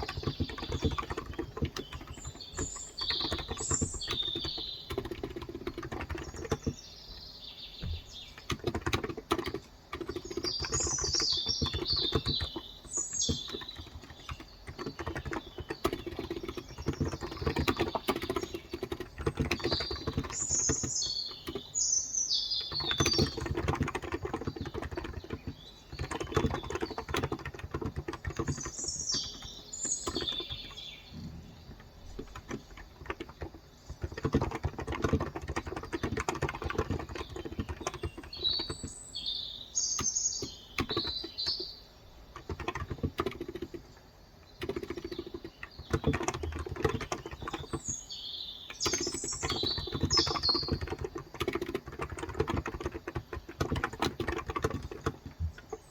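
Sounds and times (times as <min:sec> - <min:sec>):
birds chirping: 0:00.0 - 0:55.9
soft keyboard typing: 0:00.0 - 0:55.9.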